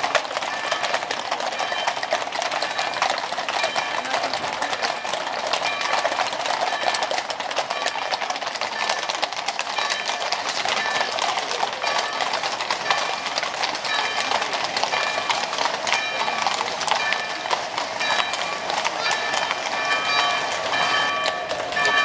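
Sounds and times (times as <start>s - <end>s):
horse hooves clattering on brick: 0.0s - 22.0s.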